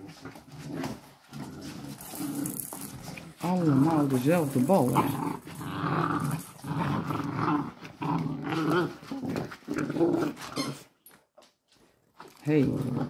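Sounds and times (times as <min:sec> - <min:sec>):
puppies play-growling: 0:00.0 - 0:11.0, 0:12.2 - 0:13.0.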